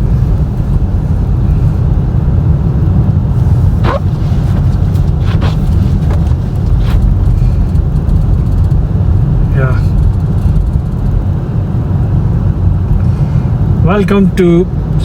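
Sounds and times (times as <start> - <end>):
car cabin driving rumble: 0.0 - 15.0.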